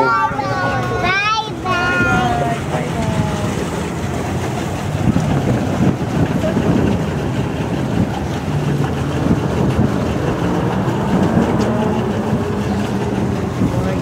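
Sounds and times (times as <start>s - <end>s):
faint voices: 0.0s - 14.0s
water churning: 0.0s - 14.0s
wind on microphone: 1.9s - 14.0s.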